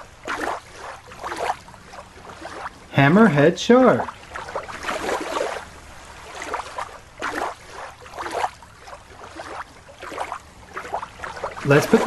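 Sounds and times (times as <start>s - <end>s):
water swishing and splashing: 0.0s - 12.0s.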